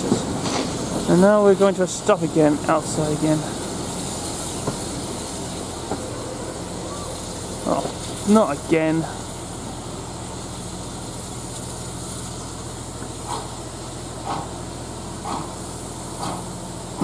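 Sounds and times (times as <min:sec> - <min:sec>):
steam train hiss and rumble: 0:00.0 - 0:17.0.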